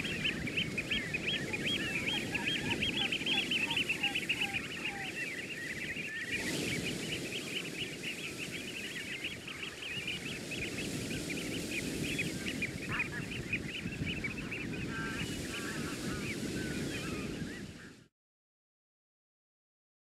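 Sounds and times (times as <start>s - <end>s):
flock of birds calling: 0.0s - 18.1s
rush of wind or surf: 0.0s - 18.1s.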